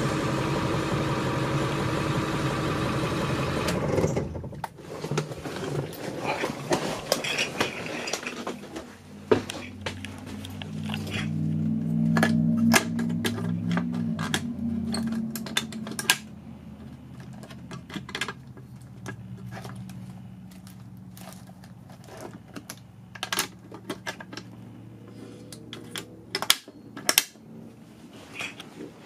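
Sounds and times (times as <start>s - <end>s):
steady low hum: 4.3s - 29.0s.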